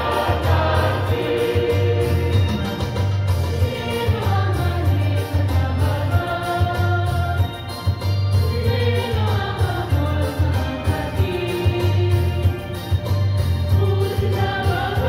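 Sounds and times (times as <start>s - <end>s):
choir singing: 0.0s - 7.6s, 8.5s - 12.6s, 13.8s - 15.0s.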